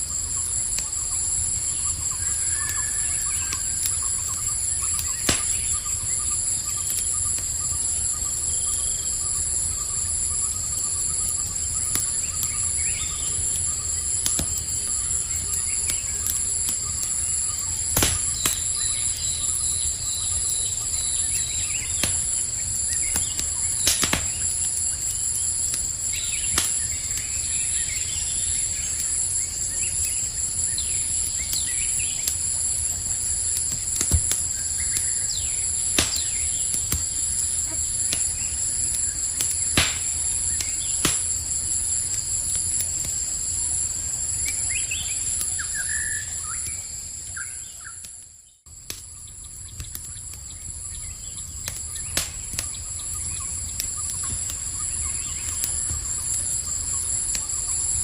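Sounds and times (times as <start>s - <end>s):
campfire crackling and popping: 0.0s - 58.0s
insects chirring: 0.0s - 58.0s.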